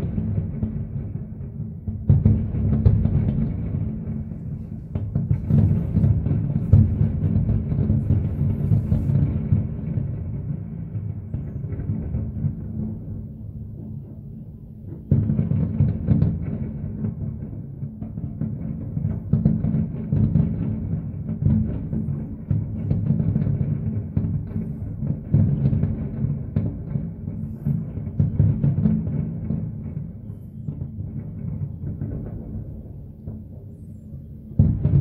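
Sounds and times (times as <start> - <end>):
fireworks bursting: 0.0 - 12.9, 14.9 - 35.0
rolling rumble of low booms: 0.0 - 35.0.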